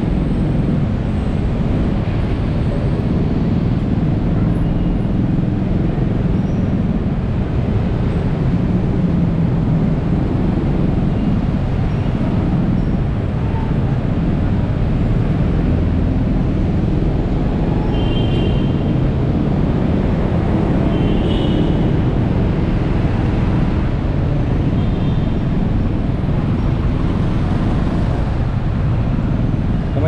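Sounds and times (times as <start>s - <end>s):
city traffic noise: 0.0s - 30.0s.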